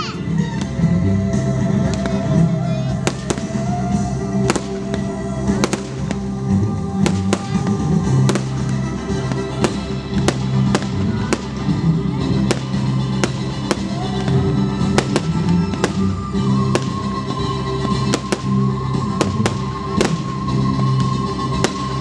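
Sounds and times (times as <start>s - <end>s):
fireworks bursting: 1.8s - 22.0s.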